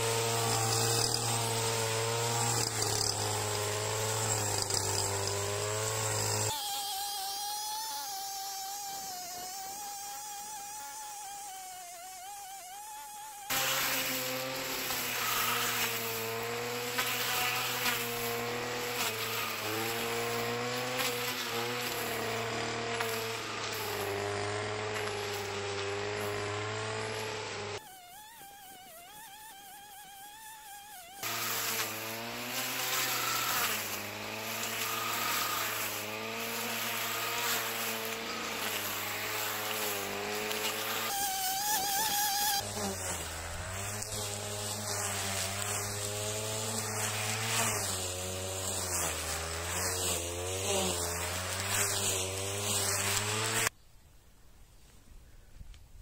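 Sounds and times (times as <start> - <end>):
brushcutter cutting grass: 0.0 - 53.8.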